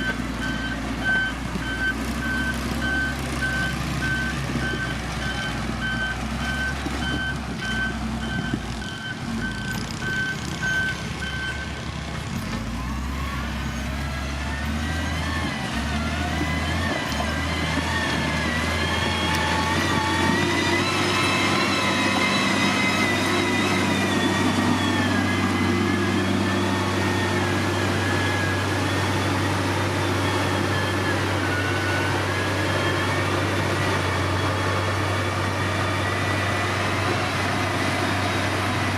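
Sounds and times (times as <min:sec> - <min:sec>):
reversing alarm beeping: 0:00.0 - 0:11.8, 0:12.8 - 0:37.1
diesel machine engine: 0:00.0 - 0:38.9.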